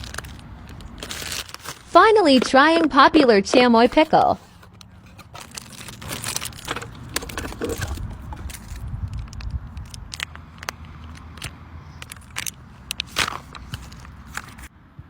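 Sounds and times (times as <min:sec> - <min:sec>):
packaging crinkling: 0:00.0 - 0:11.4, 0:12.0 - 0:14.7.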